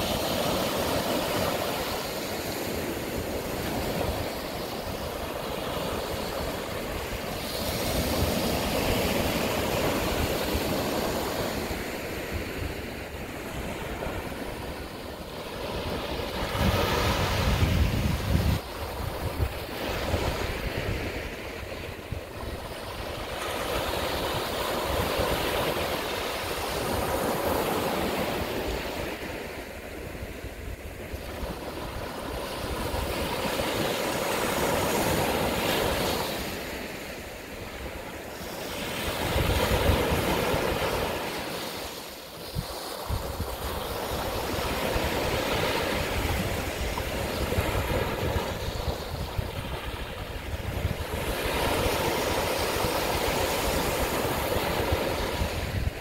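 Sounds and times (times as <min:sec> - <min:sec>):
ocean waves breaking: 0:00.0 - 0:56.0
wind rumbling on microphone: 0:00.0 - 0:56.0.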